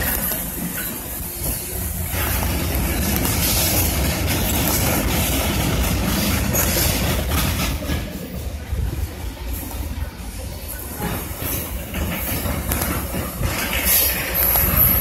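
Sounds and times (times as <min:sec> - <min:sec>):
steel wheels rolling on rails: 0:00.0 - 0:15.0.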